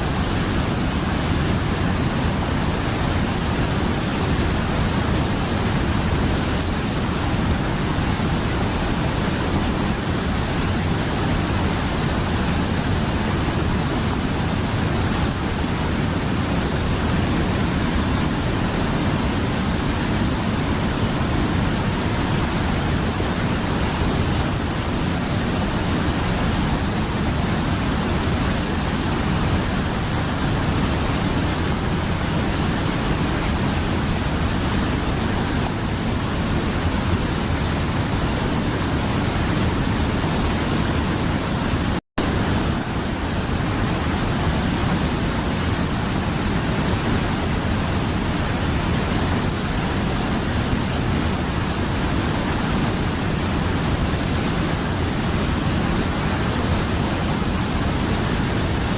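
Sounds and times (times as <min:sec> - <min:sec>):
river rushing: 0:00.0 - 0:58.9.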